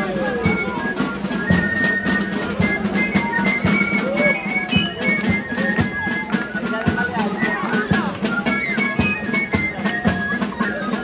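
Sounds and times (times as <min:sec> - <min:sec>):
drum strokes: 0:00.0 - 0:11.0
reed pipes melody: 0:00.0 - 0:11.0.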